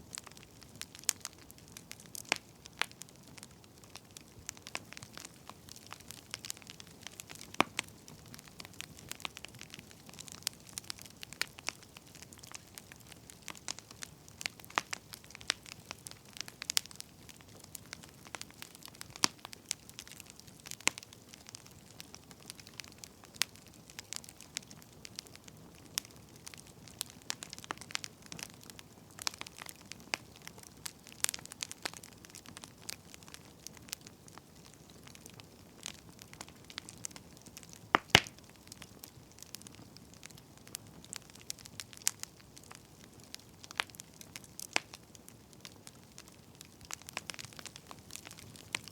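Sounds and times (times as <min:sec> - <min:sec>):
soft steady hiss: 0:00.0 - 0:48.9
wood fire crackling and popping: 0:00.0 - 0:48.9.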